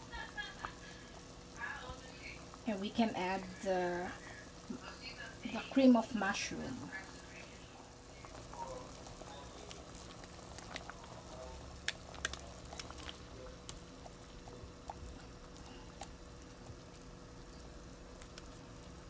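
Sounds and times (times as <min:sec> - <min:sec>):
faint steady hum: 0:00.0 - 0:19.0
soup boiling with bubbles popping: 0:00.0 - 0:19.0.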